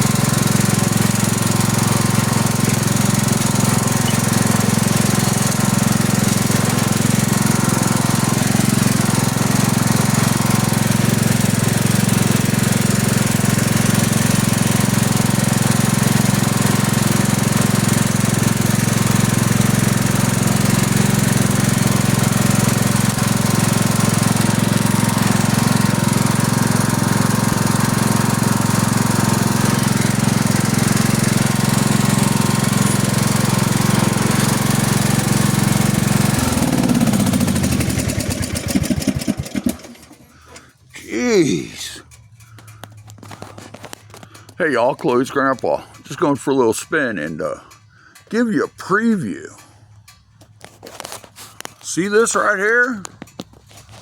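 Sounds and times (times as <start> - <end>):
lawn tractor engine drone: 0.0 - 54.0.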